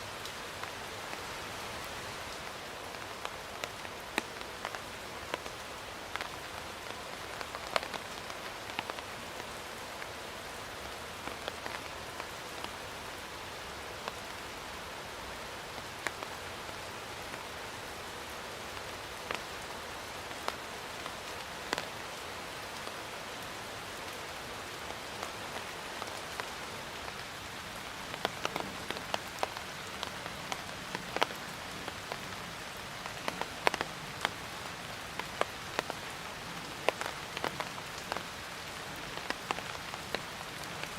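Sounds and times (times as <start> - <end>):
raindrops ticking on a surface: 0.0 - 40.9
steady rain hiss: 0.0 - 40.9.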